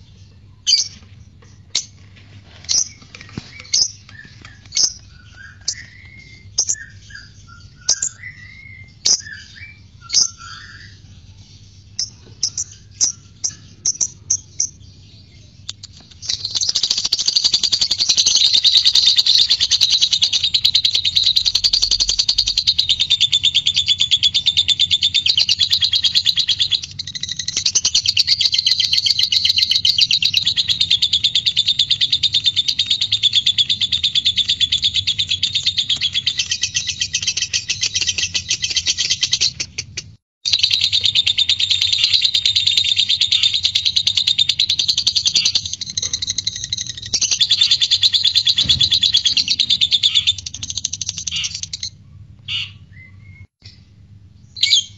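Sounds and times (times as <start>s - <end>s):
lovebird rapid chattering song: 0.0s - 2.0s, 2.7s - 53.8s
lovebird chirps and warbles: 0.0s - 54.9s.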